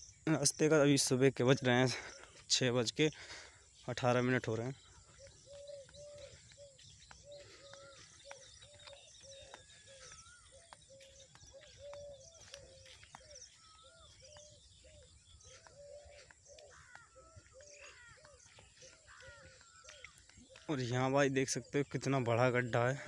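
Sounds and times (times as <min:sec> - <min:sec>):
bird repeating low note: 0:00.0 - 0:23.0
birds wavering high calls: 0:00.0 - 0:23.0.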